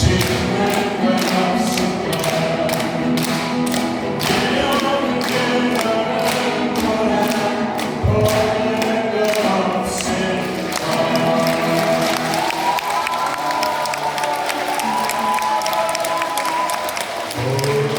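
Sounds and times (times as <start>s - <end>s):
group of voices singing: 0.0s - 17.9s.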